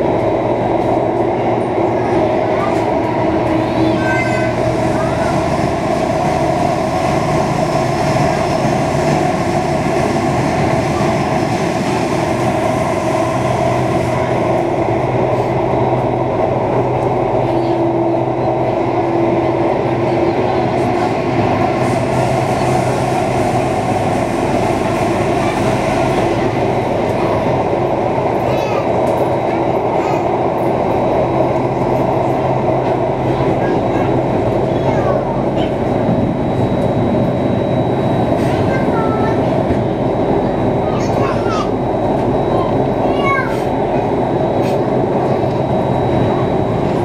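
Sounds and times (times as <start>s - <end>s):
train rumbling in tunnel: 0.0s - 47.0s.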